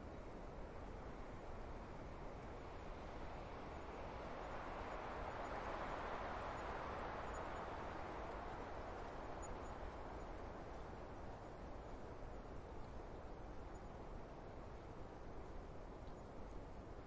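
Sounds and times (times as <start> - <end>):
wind blowing through trees: 0.0 - 17.0.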